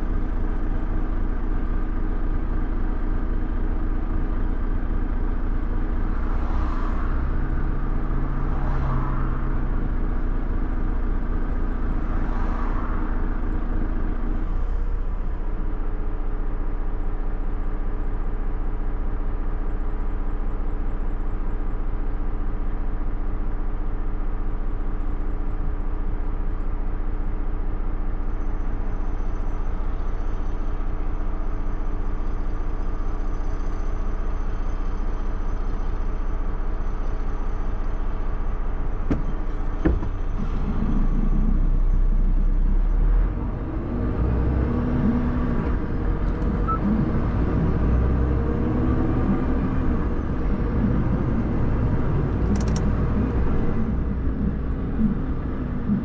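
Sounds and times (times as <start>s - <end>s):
faint engine hum: 0.0s - 56.0s
road and wind noise: 0.0s - 56.0s.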